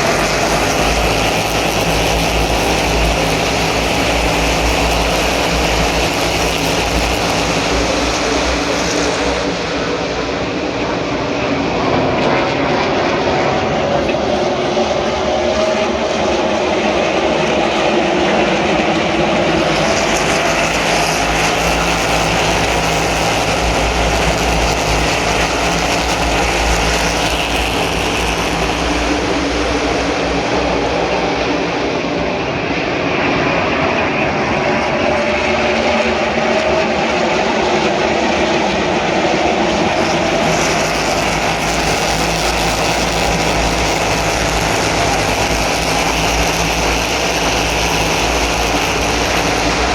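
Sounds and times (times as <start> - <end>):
race car engines roaring: 0.0 - 49.9.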